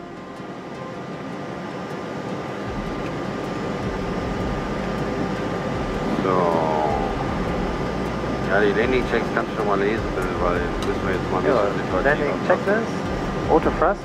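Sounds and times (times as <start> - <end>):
cockpit airflow and air conditioning: 0.0 - 14.0.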